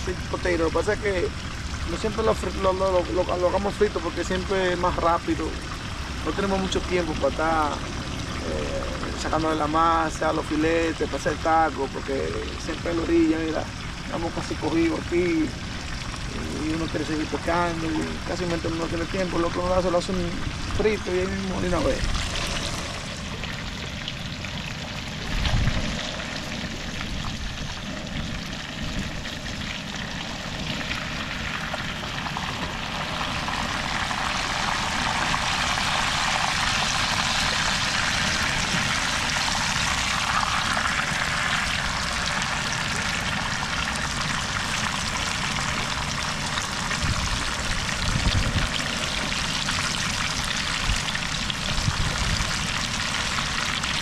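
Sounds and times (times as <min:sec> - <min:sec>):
food frying in hot oil: 0:00.0 - 0:54.0.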